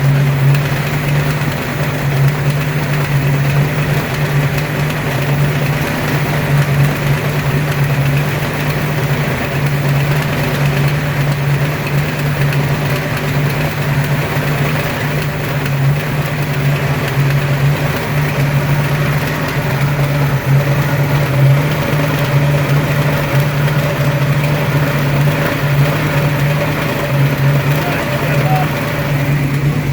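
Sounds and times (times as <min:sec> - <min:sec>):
car engine idling: 0:00.0 - 0:29.9
mechanical engine noise: 0:00.0 - 0:29.9.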